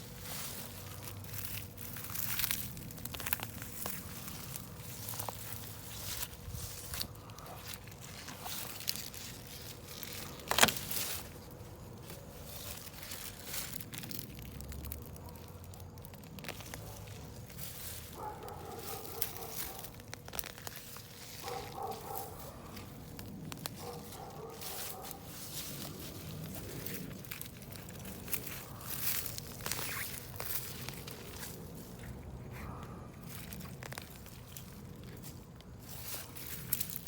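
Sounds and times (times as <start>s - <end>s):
hands digging through soil: 0.0s - 37.0s.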